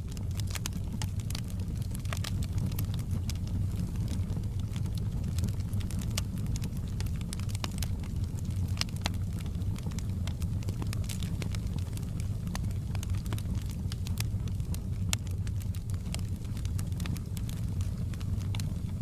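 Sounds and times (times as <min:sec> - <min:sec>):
fire crackling and popping: 0:00.0 - 0:19.0
fire roaring: 0:00.0 - 0:19.0.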